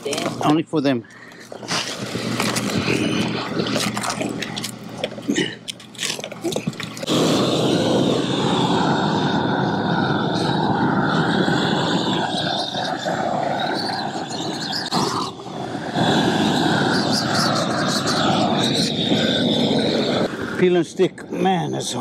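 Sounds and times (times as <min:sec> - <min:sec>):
roofing torch flame rushing: 0:01.4 - 0:05.3, 0:05.9 - 0:21.2.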